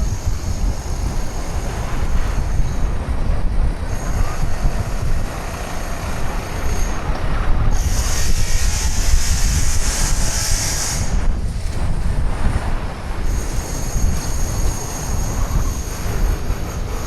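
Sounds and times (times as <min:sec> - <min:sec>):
hissing rush: 0:00.0 - 0:17.0
wind rumbling on microphone: 0:00.0 - 0:17.0.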